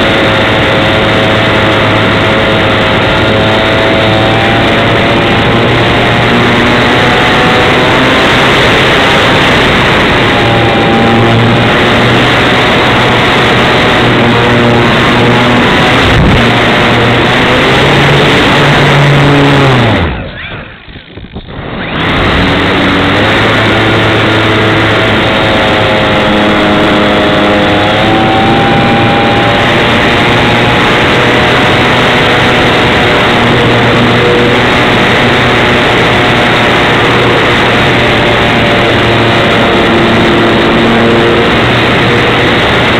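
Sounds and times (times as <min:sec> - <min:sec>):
wind on microphone: 0:00.0 - 0:20.2, 0:20.8 - 0:42.9
electric motor and propeller whine: 0:00.0 - 0:42.9.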